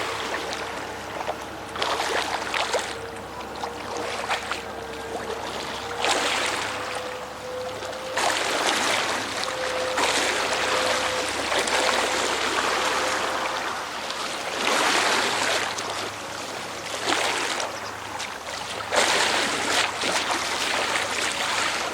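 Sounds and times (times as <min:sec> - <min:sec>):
boat engine hum: 0:00.0 - 0:21.9
water rushing and splashing: 0:00.0 - 0:21.9.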